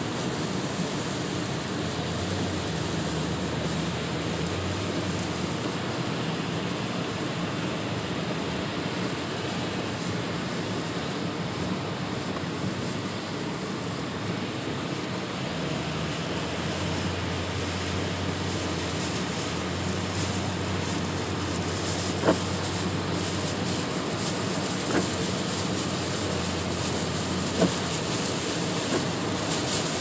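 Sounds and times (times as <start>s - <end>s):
heavy rain on a car: 0.0s - 30.0s
tyres hissing on wet road: 0.0s - 30.0s.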